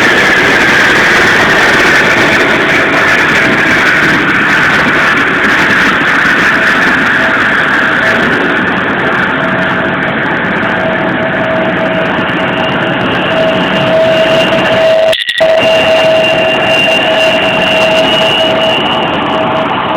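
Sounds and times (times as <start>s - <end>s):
jet engines rushing and whining: 0.0s - 19.9s.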